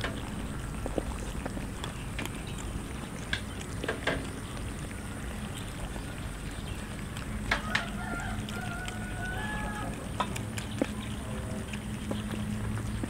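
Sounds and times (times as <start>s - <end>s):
cats chewing and smacking: 0.0s - 13.0s
low background rumble: 0.0s - 13.0s.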